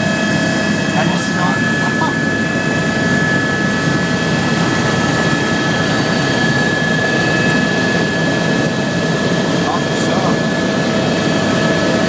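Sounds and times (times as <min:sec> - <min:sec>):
helicopter rotor and engine: 0:00.0 - 0:12.0
high engine whine: 0:00.0 - 0:12.0.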